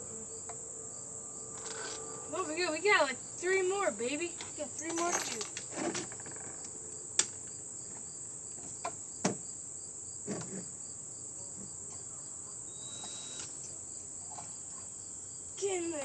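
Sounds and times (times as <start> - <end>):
cricket chirping: 0.0 - 16.0
insects droning: 0.0 - 16.0.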